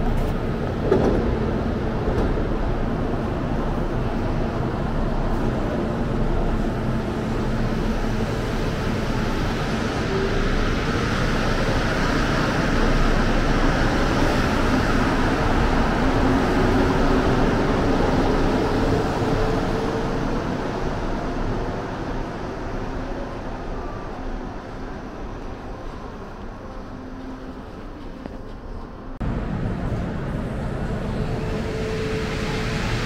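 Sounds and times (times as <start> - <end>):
metro train rolling past: 0.0 - 33.0.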